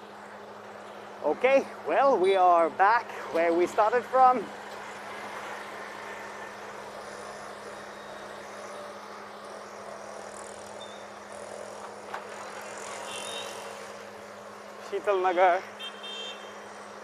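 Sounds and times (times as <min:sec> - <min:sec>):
auto-rickshaws and scooters passing: 0:00.0 - 0:17.0.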